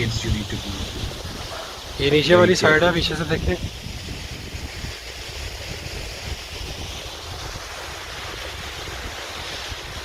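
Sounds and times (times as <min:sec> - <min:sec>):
waterfall rushing: 0:00.0 - 0:10.0
wind buffeting microphone: 0:00.0 - 0:10.0.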